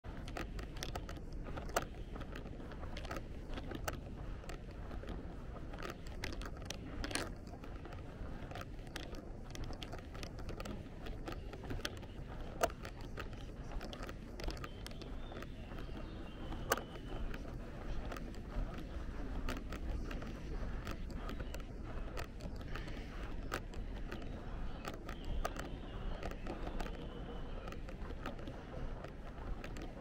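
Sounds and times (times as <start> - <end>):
sharp taps and clicks: 0.1 - 30.0.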